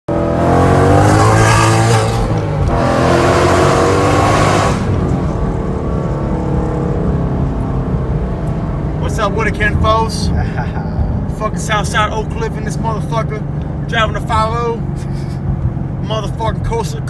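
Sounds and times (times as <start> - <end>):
car exhaust accelerating: 0.1 - 16.8.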